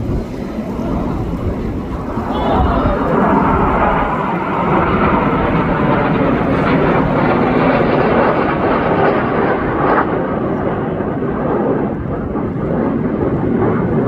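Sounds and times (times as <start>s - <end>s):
jet roar flying past: 0.0s - 14.0s.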